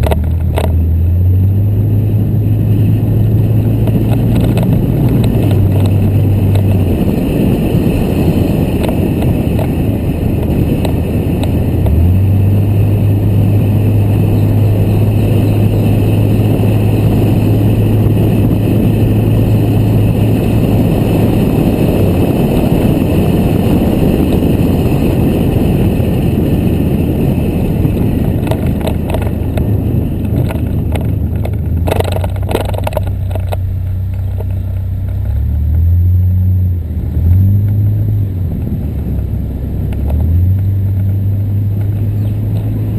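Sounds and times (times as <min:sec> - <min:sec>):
road rumble: 0:00.0 - 0:42.9
vehicle engine hum: 0:00.0 - 0:42.9.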